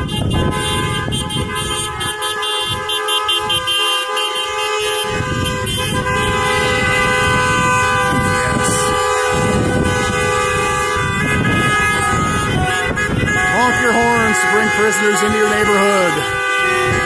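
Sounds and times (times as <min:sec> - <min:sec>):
car horns honking: 0:00.0 - 0:17.0
passing traffic road noise: 0:00.0 - 0:17.0.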